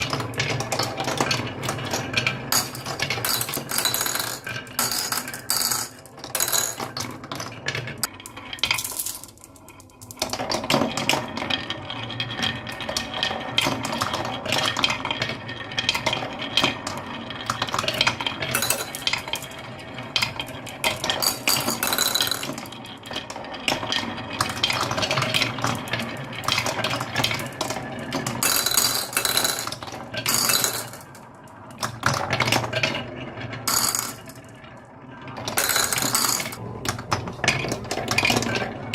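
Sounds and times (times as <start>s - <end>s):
marbles clattering down wooden run: 0.0s - 38.9s.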